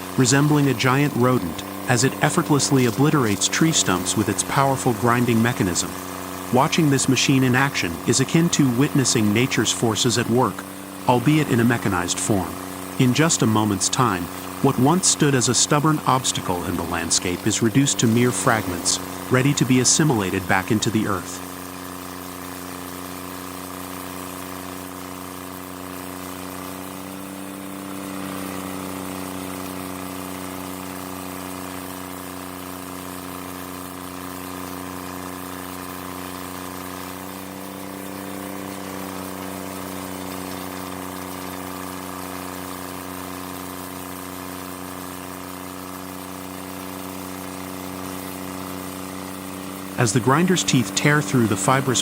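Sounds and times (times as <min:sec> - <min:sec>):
stump grinder engine running: 0:00.0 - 0:52.0.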